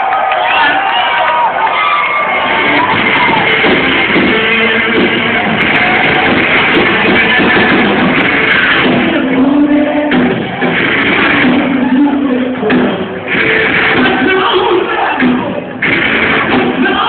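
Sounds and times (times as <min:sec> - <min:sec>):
drums: 0:00.3 - 0:17.0
bass guitar: 0:01.8 - 0:17.0
distorted electric guitar riff: 0:02.0 - 0:17.0.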